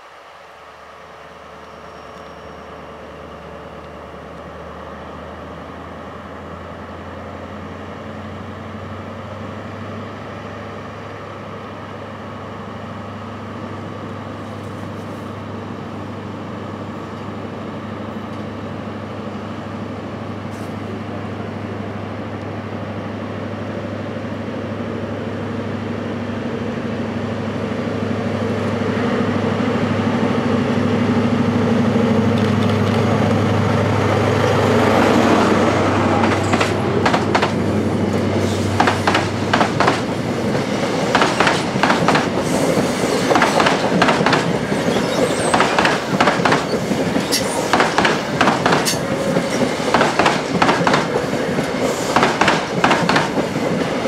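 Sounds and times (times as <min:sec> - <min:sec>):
diesel train engine hum: 0:00.0 - 0:54.0.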